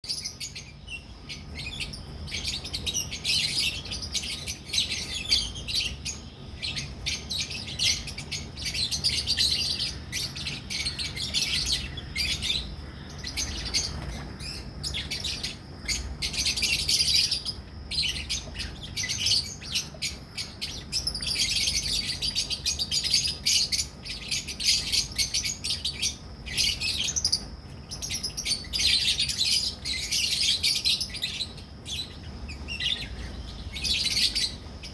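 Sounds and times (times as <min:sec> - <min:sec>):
lovebirds chirping and chattering: 0:00.0 - 0:34.9
faint low hum: 0:00.1 - 0:34.9.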